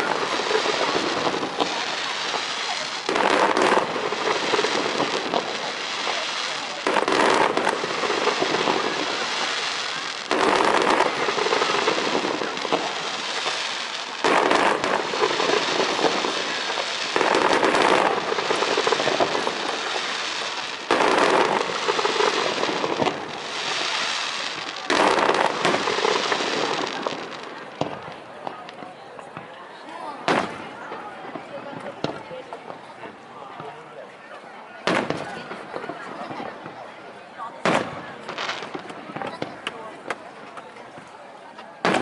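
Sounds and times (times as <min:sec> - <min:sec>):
fireworks bursting with crackling: 0:00.0 - 0:33.8, 0:34.8 - 0:42.0.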